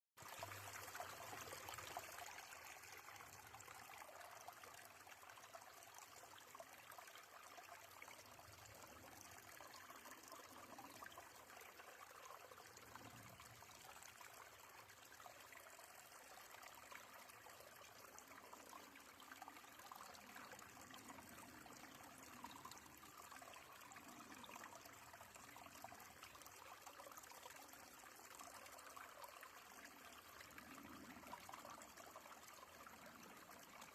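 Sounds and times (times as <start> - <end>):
brook trickling faintly: 0.2 - 33.9.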